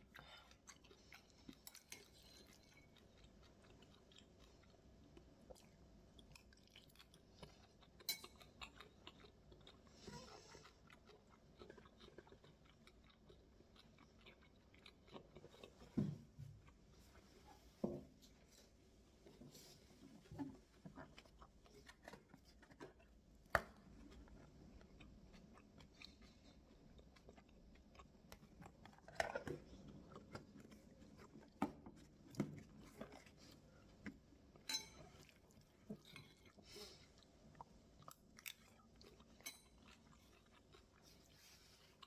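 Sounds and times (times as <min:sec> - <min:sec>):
chewing and crunching food: 0:00.0 - 0:17.7, 0:19.6 - 0:42.0.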